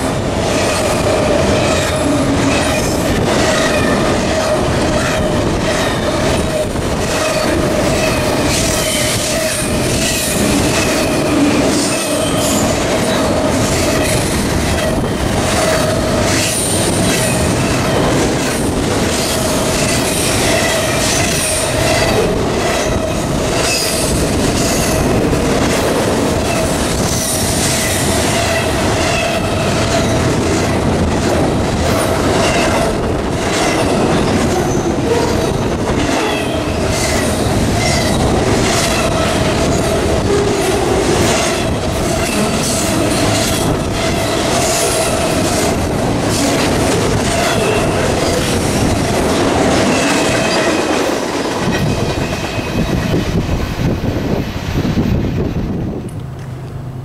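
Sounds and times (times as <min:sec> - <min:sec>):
freight train wheels rolling: 0:00.0 - 0:57.0.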